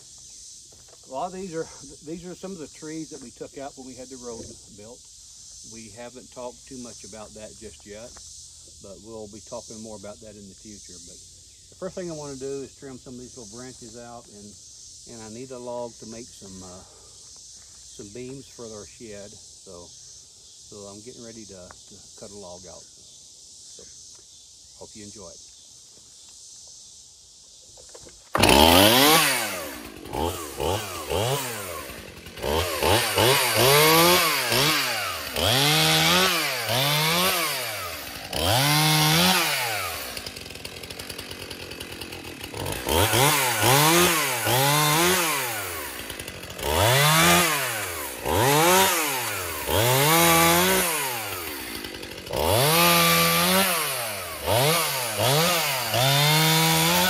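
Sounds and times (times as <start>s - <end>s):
chainsaw revving and idling: 0.0s - 19.8s, 28.0s - 57.0s.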